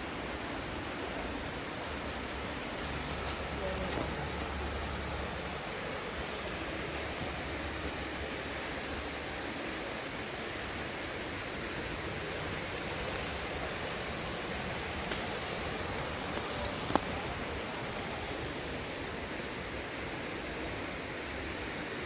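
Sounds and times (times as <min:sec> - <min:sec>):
river and waterfall rushing: 0:00.0 - 0:22.0.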